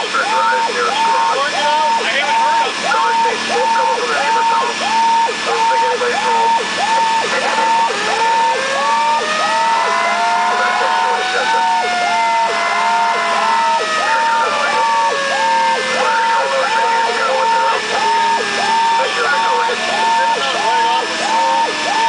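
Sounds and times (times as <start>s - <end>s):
electronic siren yelping: 0.0s - 22.0s.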